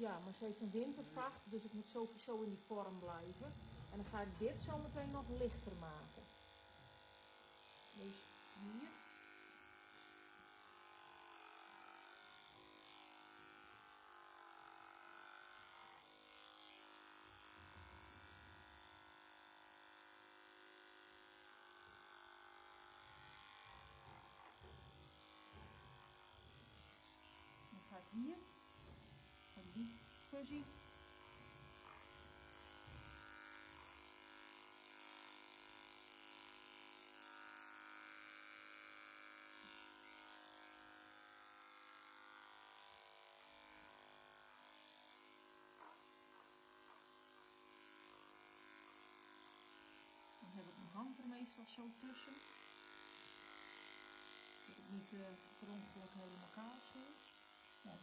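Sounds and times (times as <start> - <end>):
electric clipper hum: 0.0 - 58.0.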